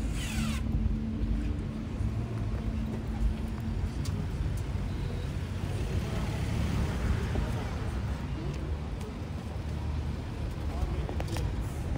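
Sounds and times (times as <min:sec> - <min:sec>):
car engine low rumble: 0:00.0 - 0:11.9.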